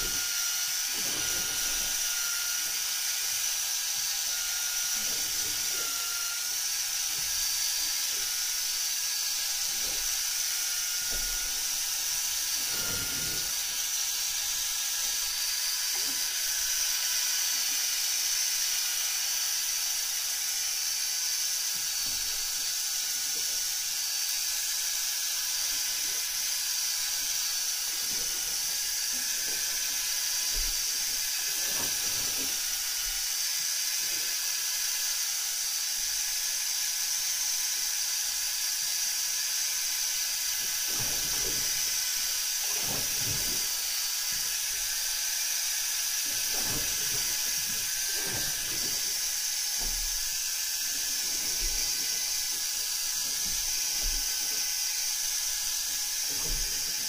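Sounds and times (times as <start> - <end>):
electric fishing reel whirring: 0.0 - 57.0.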